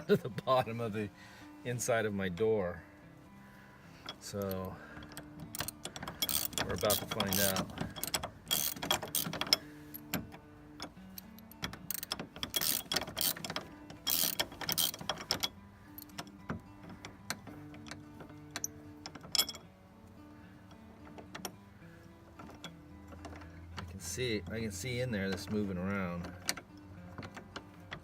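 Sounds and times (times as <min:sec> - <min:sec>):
socket ratchet clicking: 0:04.1 - 0:19.6, 0:20.6 - 0:28.0.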